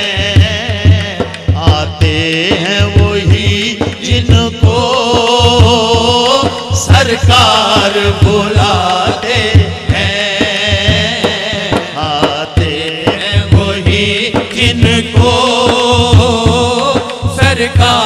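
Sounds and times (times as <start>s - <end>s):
hand drum beat: 0.0s - 18.0s
man singing devotional song: 0.0s - 18.0s.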